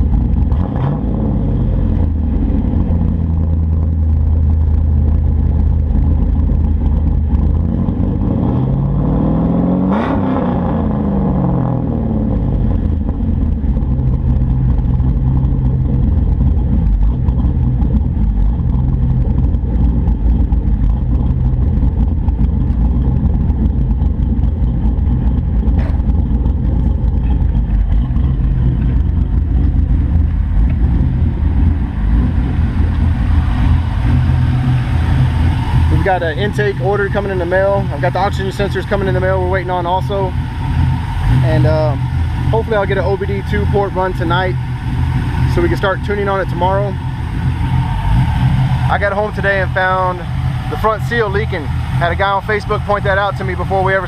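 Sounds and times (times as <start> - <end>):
car engine idling: 0.0 - 54.0
engine revving: 0.0 - 54.0.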